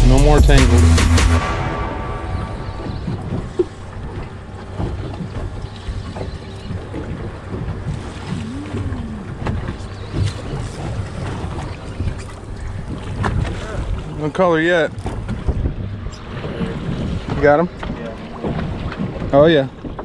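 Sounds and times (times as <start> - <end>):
wind buffeting microphone: 1.8 - 20.0
water sloshing around boat hull: 2.3 - 20.0.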